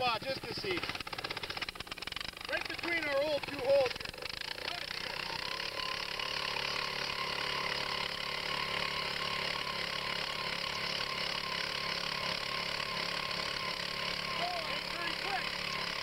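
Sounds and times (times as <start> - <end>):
earth auger engine running: 0.0 - 16.0.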